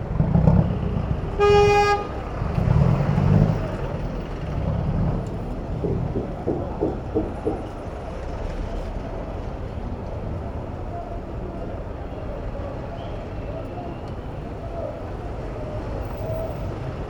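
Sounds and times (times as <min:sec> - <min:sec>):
vehicles rumbling past: 0:00.0 - 0:17.0.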